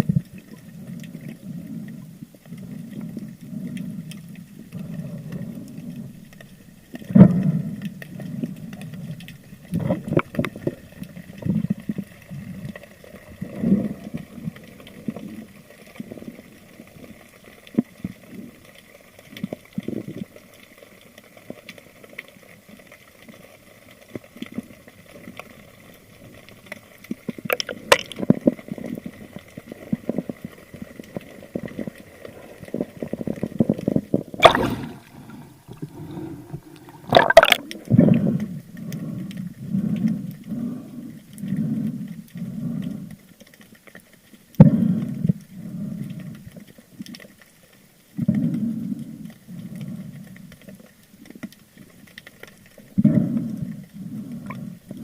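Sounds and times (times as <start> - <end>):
muffled water sloshing and gurgling: 0.0 - 55.0.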